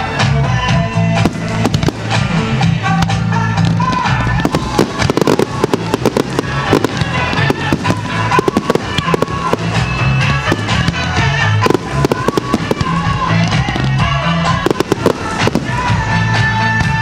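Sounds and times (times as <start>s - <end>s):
fireworks bursting and crackling: 0.0s - 17.0s
music with steady bass line: 0.0s - 17.0s.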